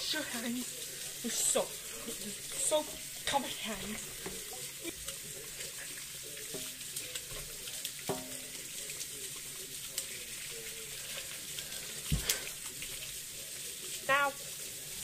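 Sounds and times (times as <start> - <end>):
faucet running into a sink: 0.0 - 15.0.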